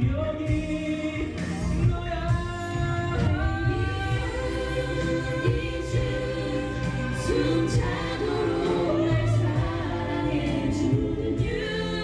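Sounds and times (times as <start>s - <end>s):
layered vocal harmonies: 0.0s - 12.0s
steady backing beat: 0.0s - 12.0s.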